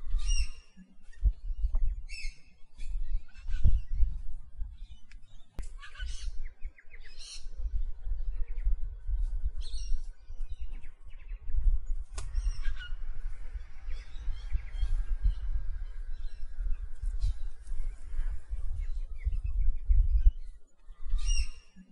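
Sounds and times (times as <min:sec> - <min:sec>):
birds chirping and squawking: 0:00.0 - 0:21.9
wind rumble on microphone: 0:00.0 - 0:21.9.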